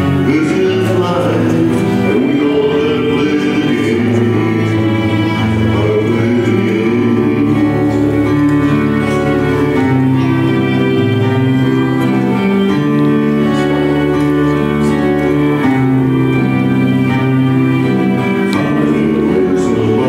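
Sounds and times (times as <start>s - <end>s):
acoustic guitar: 0.0s - 20.0s
fiddle long notes: 0.0s - 20.0s
upright bass: 0.0s - 20.0s.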